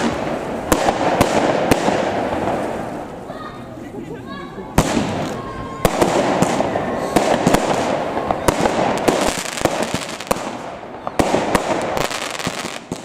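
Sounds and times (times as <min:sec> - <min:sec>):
dense firework crackle: 0:00.0 - 0:13.0.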